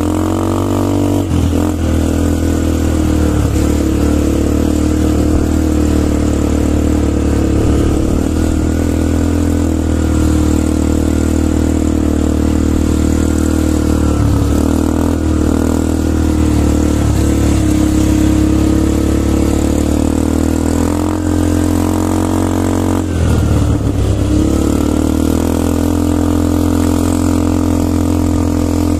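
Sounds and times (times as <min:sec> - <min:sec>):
quad bike engines running: 0:00.0 - 0:28.9.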